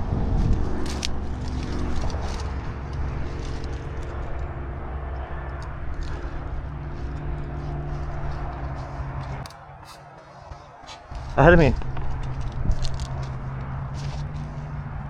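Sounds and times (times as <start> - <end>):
low engine drone: 0.6 - 15.0.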